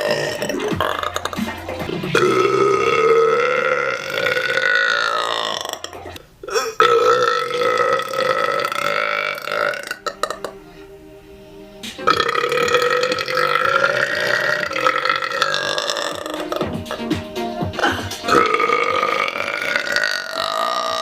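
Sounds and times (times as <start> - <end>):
woman belching: 0.0 - 10.6, 12.0 - 17.1, 17.8 - 21.0.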